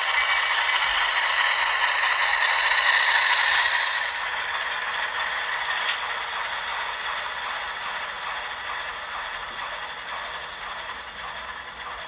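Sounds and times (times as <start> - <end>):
model train wheels rattling: 0.0 - 12.0.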